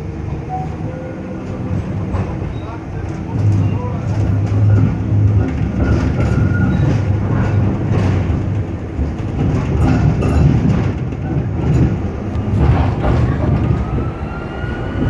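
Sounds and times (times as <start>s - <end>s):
tram wheels rumbling on track: 0.0s - 15.0s.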